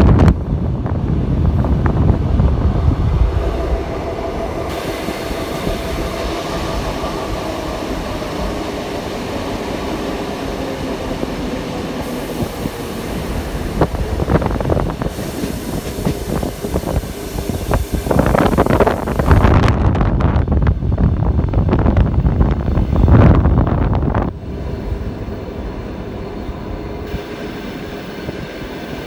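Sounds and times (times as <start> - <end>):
wind buffeting microphone: 0.0 - 27.3
train running noise inside carriage: 0.0 - 29.0.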